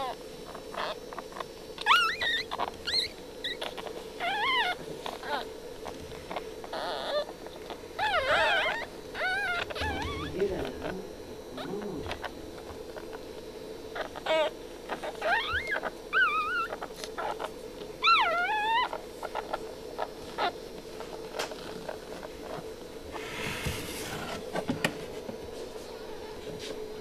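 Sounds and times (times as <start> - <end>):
puppies squealing: 0.0 - 23.5.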